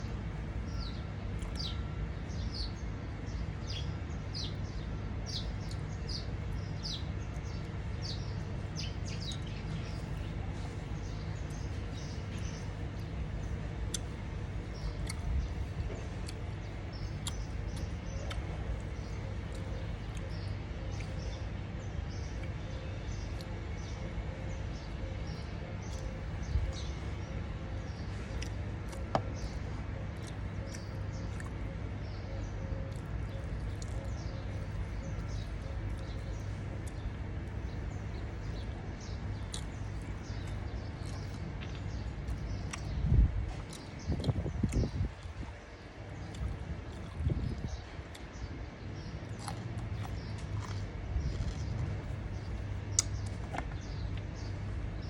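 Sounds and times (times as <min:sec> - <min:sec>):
low background hum: 0:00.0 - 0:55.0
small birds chirping: 0:00.0 - 0:55.0.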